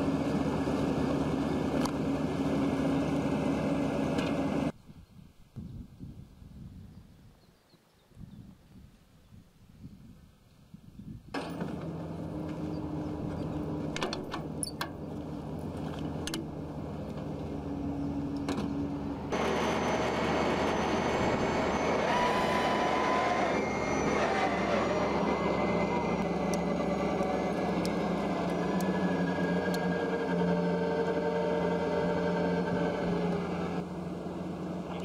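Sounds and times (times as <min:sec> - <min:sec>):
truck engine running: 0:00.0 - 0:04.7, 0:11.4 - 0:35.0.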